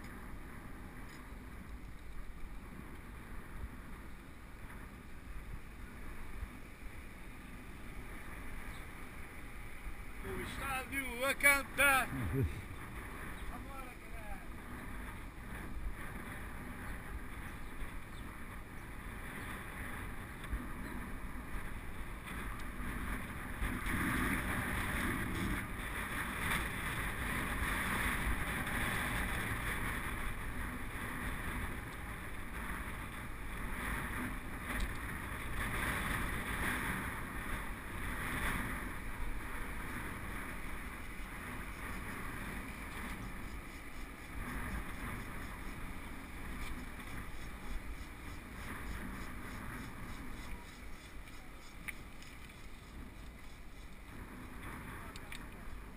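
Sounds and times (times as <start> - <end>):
bike tyres rolling on tarmac: 0.0 - 55.9
wind over microphone: 0.0 - 55.9.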